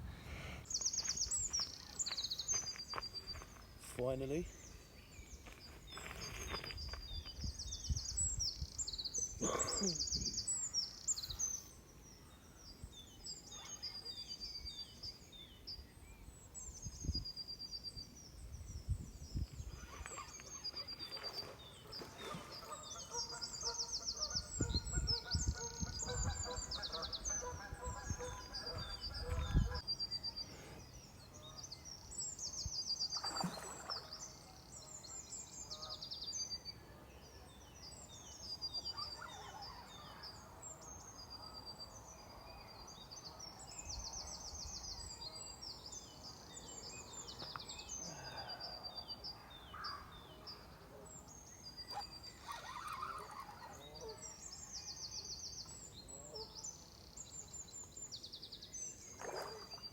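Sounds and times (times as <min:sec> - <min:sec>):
songbirds singing and chirping: 0:00.0 - 0:59.9.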